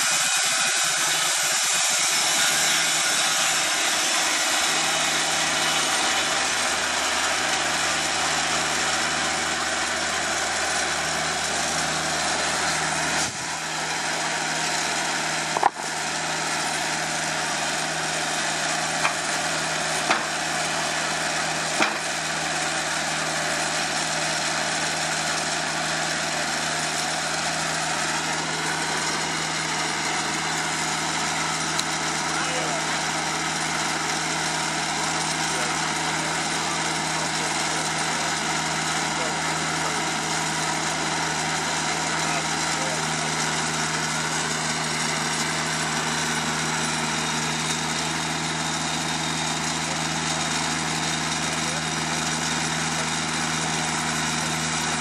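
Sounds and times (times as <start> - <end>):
bandsaw blade sawing wood: 0.0 - 55.0.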